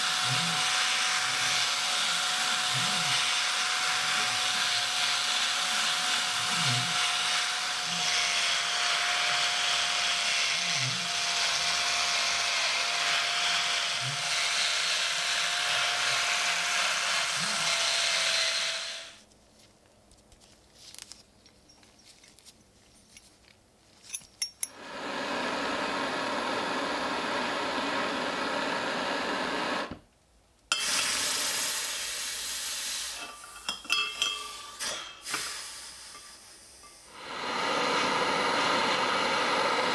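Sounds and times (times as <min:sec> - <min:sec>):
drill spinning wire brush: 0:00.0 - 0:19.2, 0:24.7 - 0:30.0, 0:30.7 - 0:39.9.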